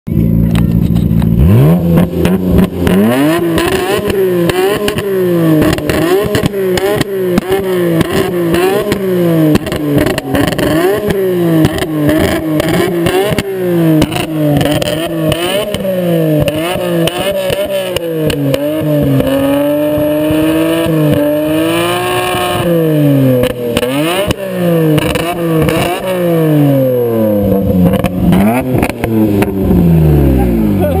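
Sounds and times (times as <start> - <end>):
car engine revving: 0.1 - 31.0.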